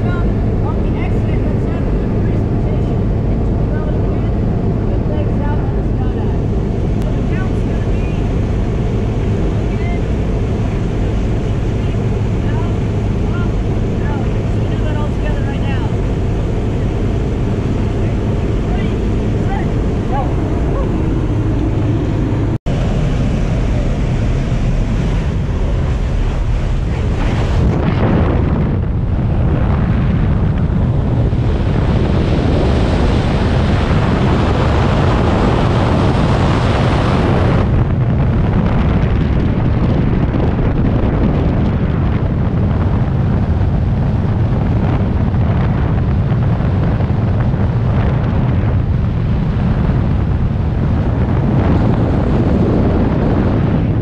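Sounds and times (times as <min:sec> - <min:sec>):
airplane engine: 0:00.0 - 0:54.0
wind rushing over microphone: 0:00.0 - 0:54.0.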